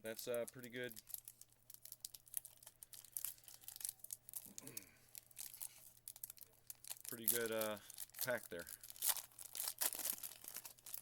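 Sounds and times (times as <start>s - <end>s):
cards and packaging rustling: 0.0s - 11.0s.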